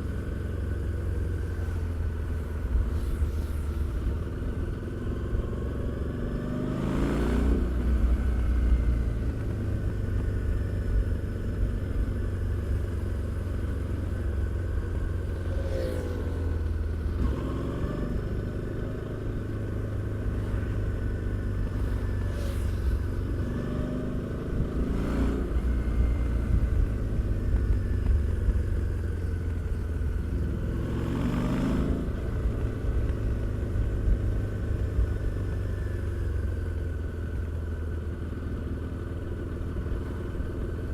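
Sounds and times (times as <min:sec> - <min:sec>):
motorcycle engine revving: 0:00.0 - 0:36.7.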